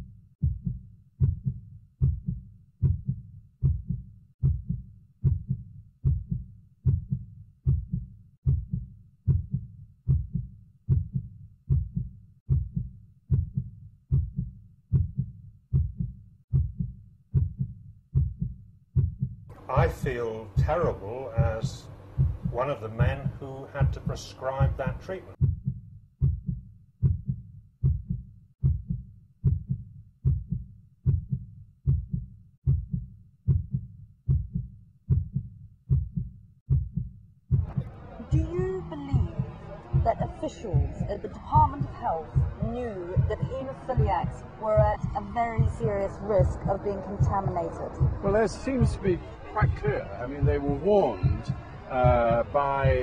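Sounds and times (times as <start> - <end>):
faint low rumble: 0.0 - 53.0
heartbeat double thump: 0.0 - 53.0.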